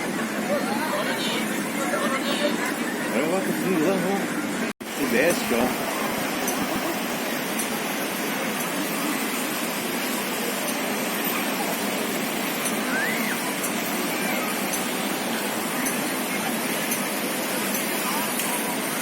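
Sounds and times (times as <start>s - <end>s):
steady rushing outdoor noise: 0.0s - 19.0s.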